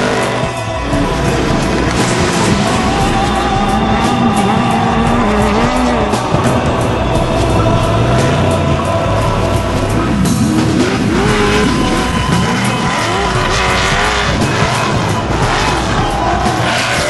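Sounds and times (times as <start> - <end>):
background music: 0.0 - 17.0
race vehicle engines revving: 0.0 - 17.0.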